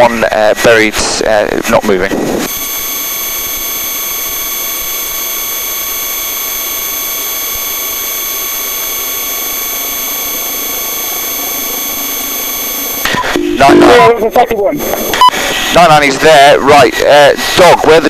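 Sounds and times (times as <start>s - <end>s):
high-pitched whine: 1.8s - 18.0s.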